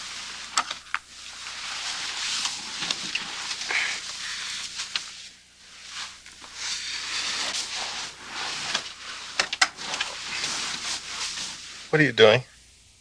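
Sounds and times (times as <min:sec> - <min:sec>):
bedclothes rustling: 0:01.2 - 0:12.0.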